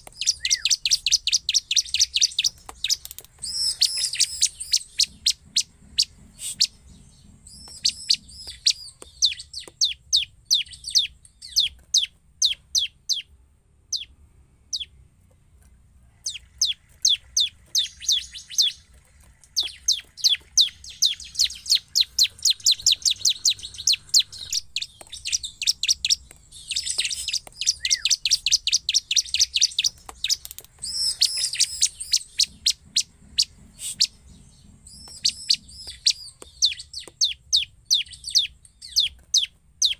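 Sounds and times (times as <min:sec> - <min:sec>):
bird calling sharp chips: 0:00.0 - 0:13.3, 0:16.2 - 0:39.9.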